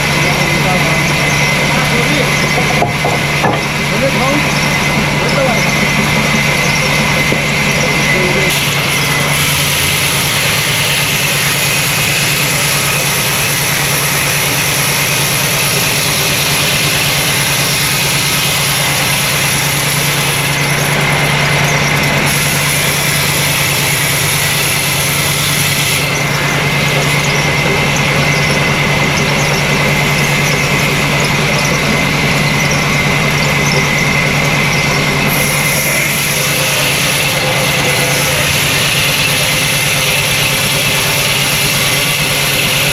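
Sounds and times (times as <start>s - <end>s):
machine hum: 0.0s - 42.9s
thin high whine: 0.0s - 42.9s.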